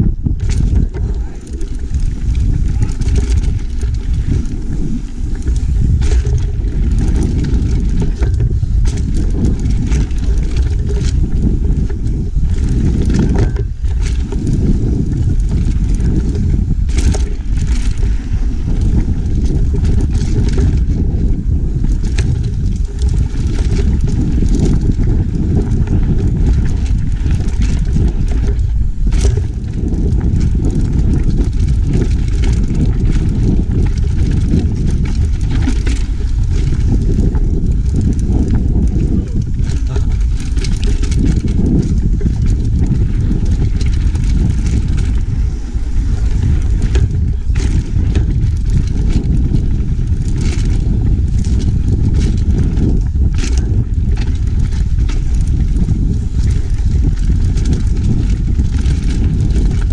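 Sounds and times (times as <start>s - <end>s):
bike knocking and rattling: 0.0s - 59.9s
tyres on dirt trail: 0.0s - 59.9s
wind rumble on microphone: 0.0s - 59.9s.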